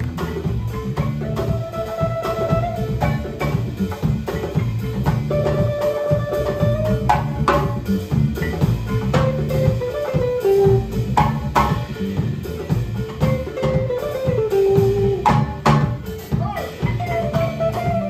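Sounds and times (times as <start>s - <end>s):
djembe: 0.0s - 18.0s
drum kit: 0.0s - 18.0s
electric guitars: 0.0s - 18.0s
marimba: 0.0s - 18.0s.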